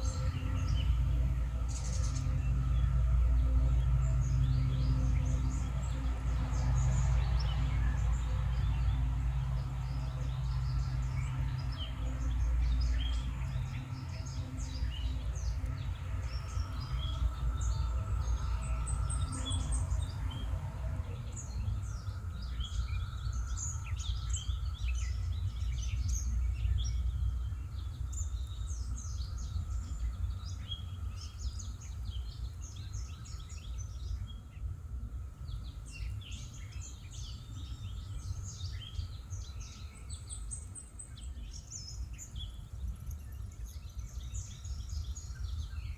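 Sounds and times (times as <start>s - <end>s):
low outdoor rumble: 0.0s - 45.9s
songbirds chirping: 0.0s - 45.9s.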